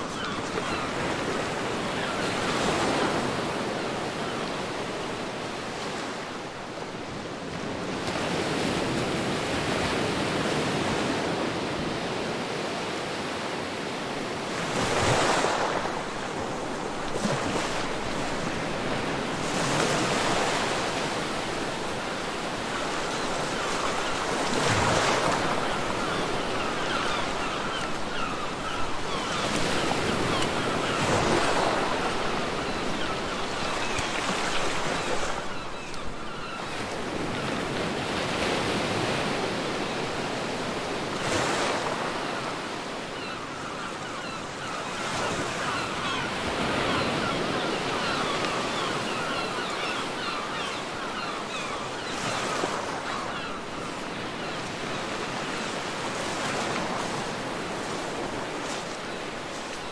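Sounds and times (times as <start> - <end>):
ocean waves breaking on beach: 0.0 - 59.9
wind: 0.0 - 59.9.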